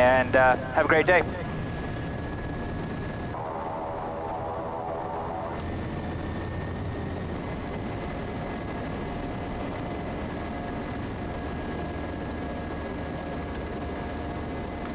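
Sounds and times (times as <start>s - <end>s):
turboprop engine running: 0.0s - 14.9s.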